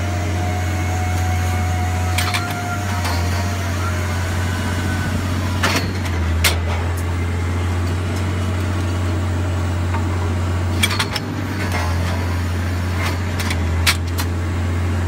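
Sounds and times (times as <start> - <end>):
power unit engine drone: 0.0 - 15.0.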